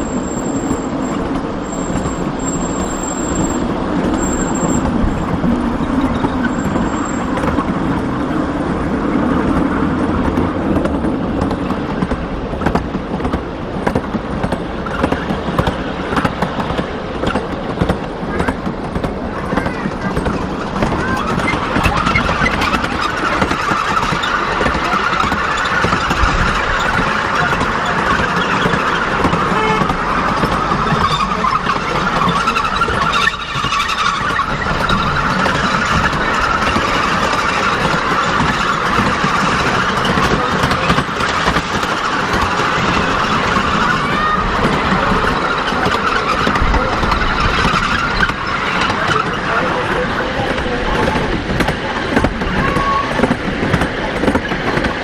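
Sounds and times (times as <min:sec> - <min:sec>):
miniature train running: 0:00.0 - 0:55.0.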